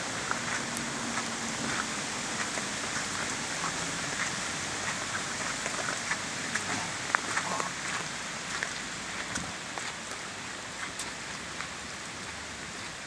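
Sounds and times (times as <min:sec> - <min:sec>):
raindrop ticks: 0:00.0 - 0:13.0
steady rain hiss: 0:00.0 - 0:13.0.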